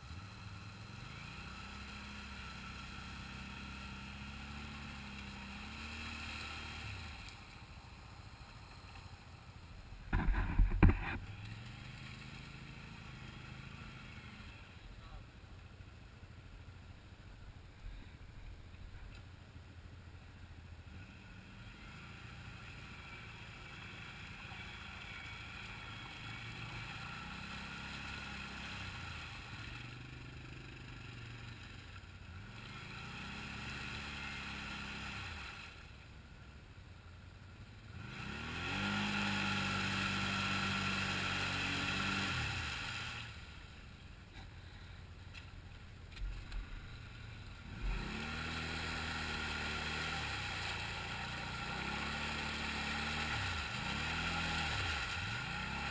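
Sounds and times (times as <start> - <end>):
quad engines revving: 0.0 - 9.3, 10.1 - 15.2, 20.8 - 36.0, 37.6 - 55.9.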